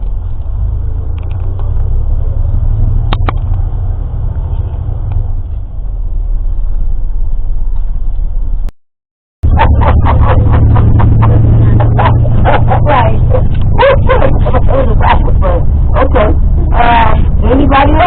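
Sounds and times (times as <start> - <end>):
bus engine rumble: 0.0 - 8.7, 9.4 - 18.0
road noise: 0.0 - 8.7, 9.4 - 18.0.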